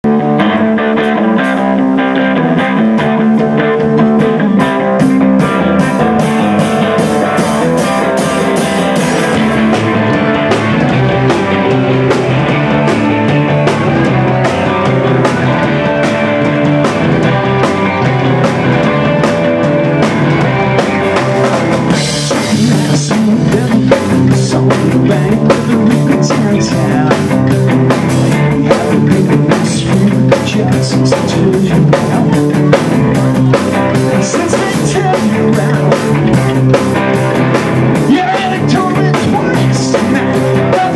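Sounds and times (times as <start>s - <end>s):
distorted electric guitars: 0.0s - 40.9s
drum kit beat: 0.1s - 40.9s.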